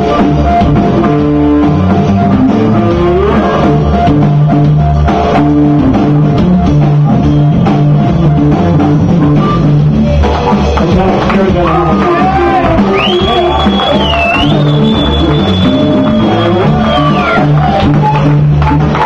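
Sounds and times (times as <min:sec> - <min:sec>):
drum kit steady beat: 0:00.0 - 0:19.0
guitar: 0:00.0 - 0:19.0.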